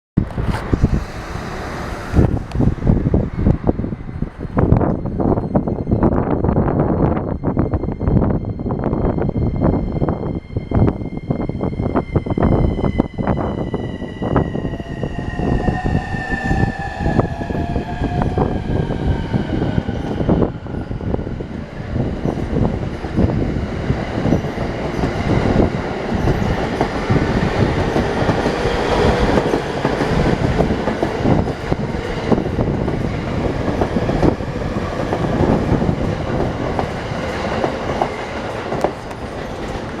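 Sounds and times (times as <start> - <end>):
electric train inverter tones: 0.2 - 40.0
train rolling noise: 0.2 - 40.0.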